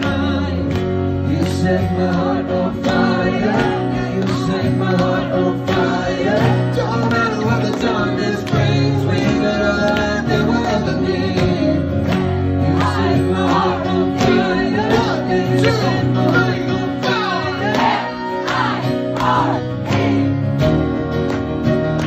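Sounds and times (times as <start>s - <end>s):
man singing into microphone: 0.0s - 18.5s
strummed acoustic guitar: 0.0s - 22.0s.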